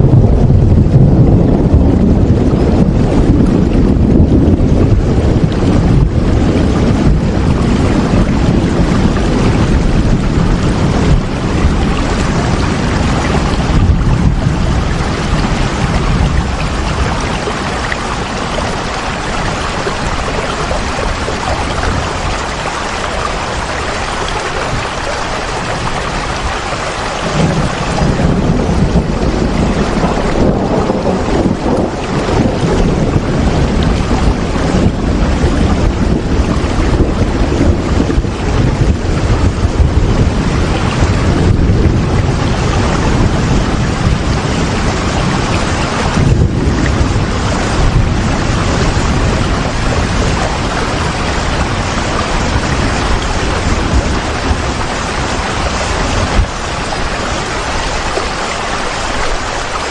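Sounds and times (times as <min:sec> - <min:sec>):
deep low rumble: 0:00.0 - 0:26.4, 0:27.2 - 0:55.0
heavy rain falling: 0:00.0 - 0:59.9.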